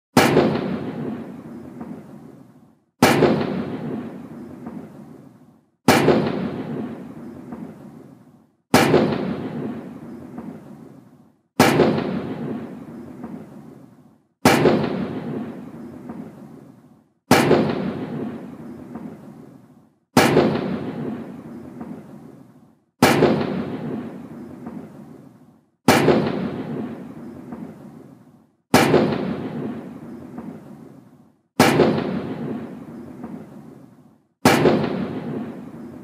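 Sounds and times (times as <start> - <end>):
booming gunshots with echo: 0.1 - 5.2, 5.8 - 8.1, 8.7 - 10.9, 11.6 - 16.7, 17.3 - 19.5, 20.1 - 25.2, 25.8 - 28.1, 28.7 - 30.9, 31.6 - 33.8, 34.4 - 36.0.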